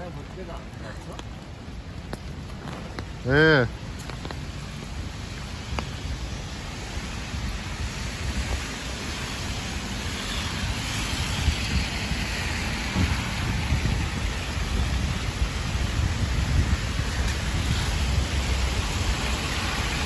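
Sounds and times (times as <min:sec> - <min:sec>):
heavy rain on pavement: 0:00.0 - 0:20.0
wind buffeting microphone: 0:00.0 - 0:20.0.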